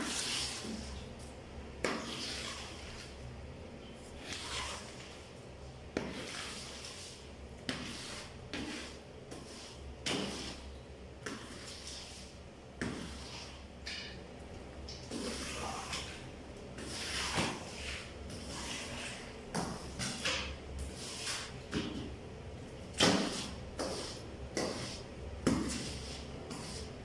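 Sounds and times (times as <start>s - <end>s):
squeegee swishing on wet floor: 0.0s - 1.3s, 1.9s - 3.3s, 4.0s - 5.4s, 6.0s - 13.7s, 15.0s - 22.0s, 22.9s - 27.0s.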